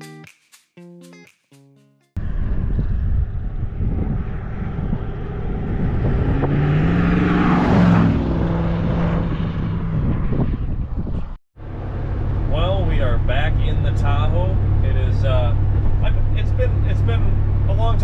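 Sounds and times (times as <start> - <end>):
car engine passing: 2.2 - 18.0.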